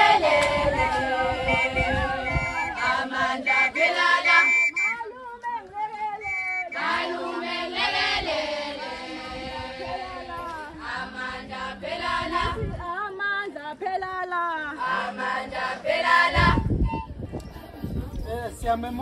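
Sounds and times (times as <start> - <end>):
women and girls singing together: 0.0 - 16.9.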